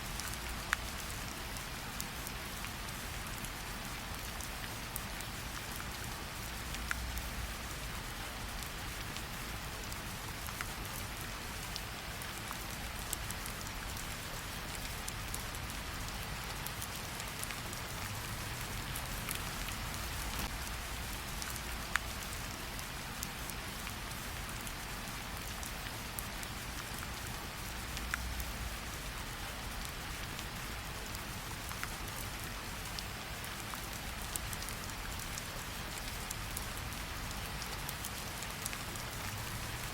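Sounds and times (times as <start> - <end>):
steady rain: 0.0 - 39.9
wood fire crackles: 0.0 - 39.9.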